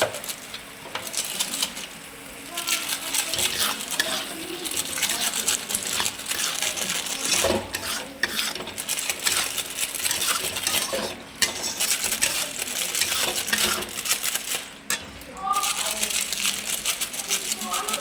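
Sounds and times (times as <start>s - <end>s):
spoon stirring in metal pot: 0.0s - 18.0s.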